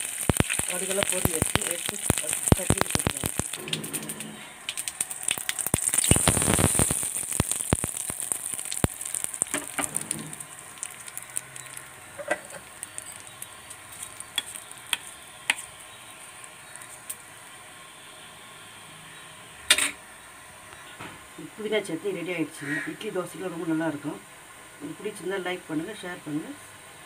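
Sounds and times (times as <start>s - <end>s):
spices sizzling and popping in oil: 0.0s - 22.4s.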